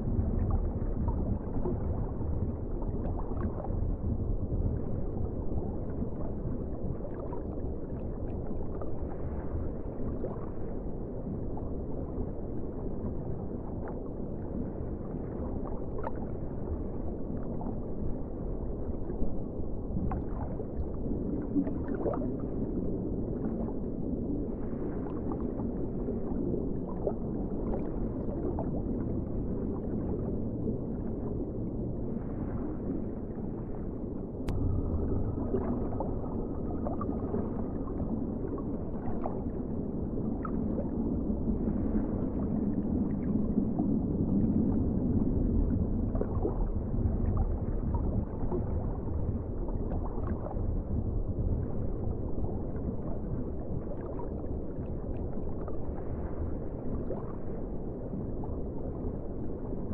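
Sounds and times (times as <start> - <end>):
underwater rumble of water: 0.0 - 59.9
water bubbling and gurgling: 0.0 - 59.9.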